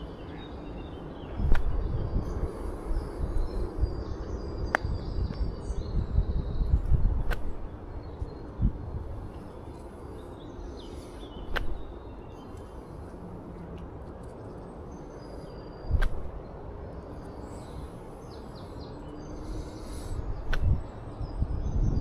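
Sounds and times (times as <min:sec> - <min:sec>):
low wind rumble: 0:00.0 - 0:22.0.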